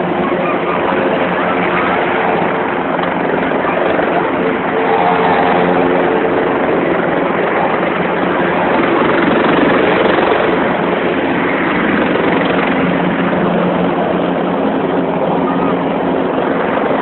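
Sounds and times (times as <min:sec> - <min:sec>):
helicopter turbine and rotor drone: 0:00.0 - 0:17.0.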